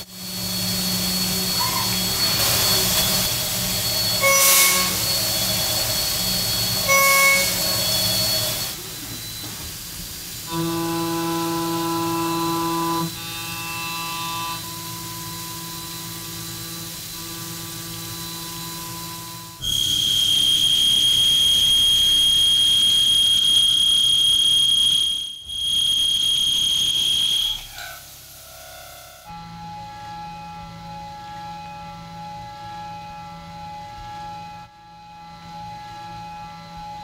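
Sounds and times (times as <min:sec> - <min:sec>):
drill high-pitched whine: 0:00.0 - 0:37.0.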